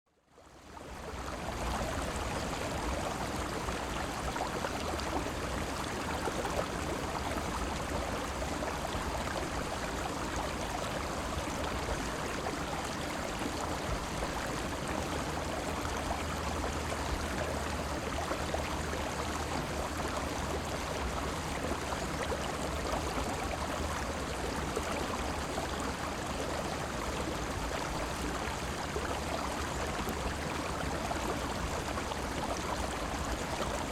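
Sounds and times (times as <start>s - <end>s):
river water gurgling and rushing: 0.4s - 33.9s.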